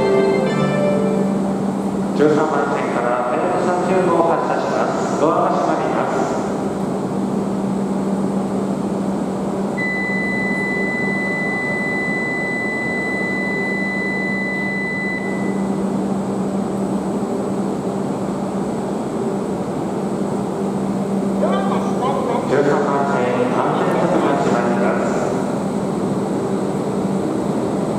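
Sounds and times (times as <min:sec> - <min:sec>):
mechanical hum: 0:00.0 - 0:27.9.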